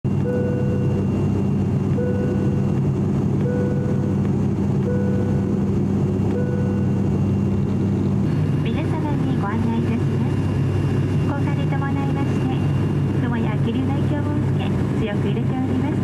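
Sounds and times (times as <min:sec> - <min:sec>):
propeller and engine hum: 0:00.0 - 0:16.0.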